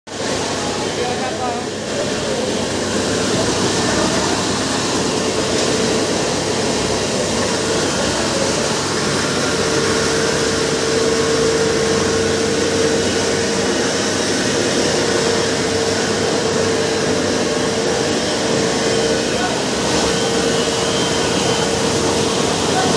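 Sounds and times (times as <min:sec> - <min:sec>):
rice mill machine whirring: 0:00.1 - 0:22.9.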